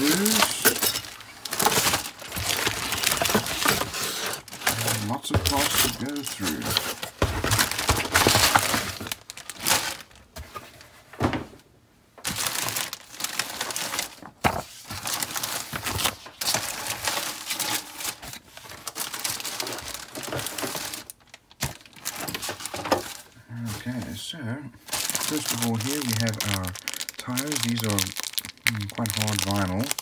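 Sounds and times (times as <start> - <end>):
plastic bags crinkling: 0.0 - 10.9, 12.2 - 24.0, 24.8 - 30.0.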